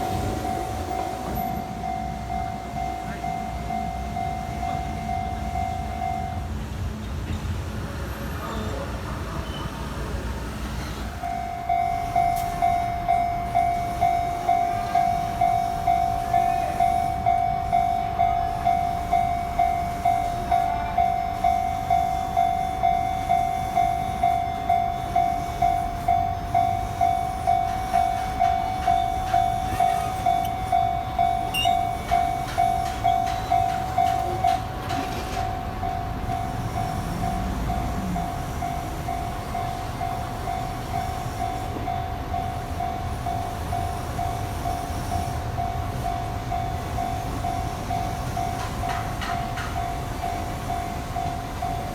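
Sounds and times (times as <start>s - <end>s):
level crossing bell ringing: 0.0s - 6.6s, 11.2s - 51.9s
train rumbling past: 0.0s - 51.9s
train whine: 0.0s - 51.9s.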